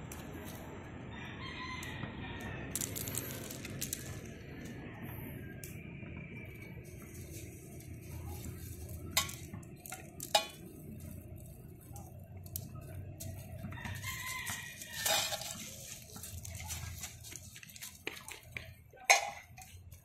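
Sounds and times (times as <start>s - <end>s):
gravel clattering and crunching: 2.7s - 5.2s, 6.4s - 20.0s.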